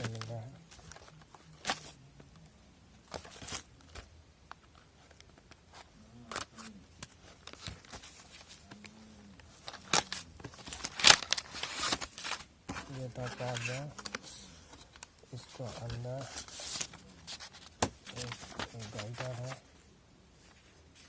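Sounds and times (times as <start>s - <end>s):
box and packaging being handled: 0.0s - 2.4s, 3.0s - 19.8s.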